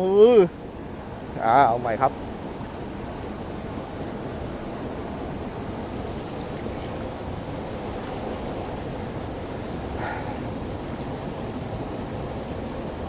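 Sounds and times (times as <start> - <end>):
river water flowing: 0.0 - 13.0
wind: 0.0 - 13.0.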